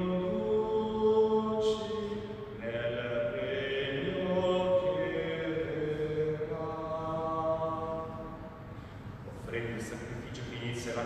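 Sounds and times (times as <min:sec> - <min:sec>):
man chanting a prayer: 0:00.0 - 0:08.2, 0:09.3 - 0:11.0.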